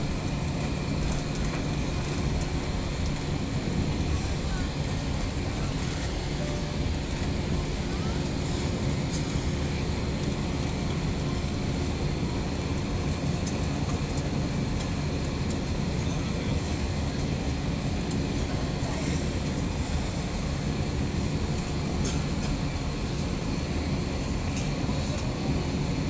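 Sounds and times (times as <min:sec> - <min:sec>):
jet engines at low power: 0:00.0 - 0:26.0.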